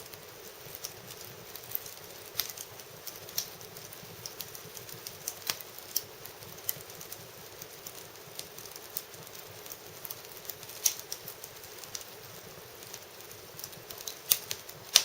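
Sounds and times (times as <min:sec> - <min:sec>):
faint steady hiss: 0:00.0 - 0:15.0
fire popping: 0:00.0 - 0:15.0
wood fire crackling: 0:00.0 - 0:15.0.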